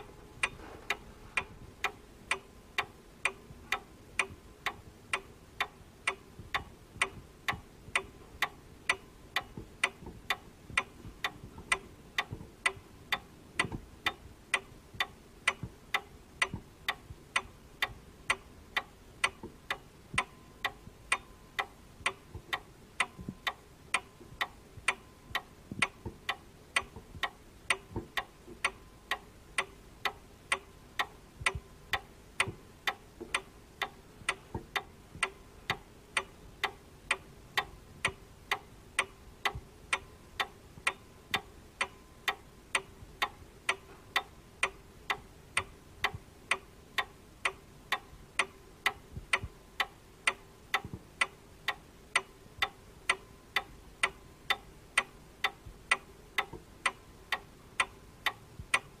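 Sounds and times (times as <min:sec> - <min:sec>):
clock ticking: 0:00.0 - 0:59.0.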